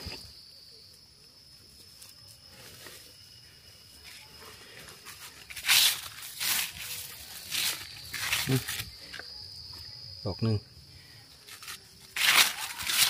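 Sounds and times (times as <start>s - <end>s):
rustle of leaves and undergrowth: 0.0s - 10.2s, 10.8s - 13.0s
faint high insect drone: 0.0s - 13.0s.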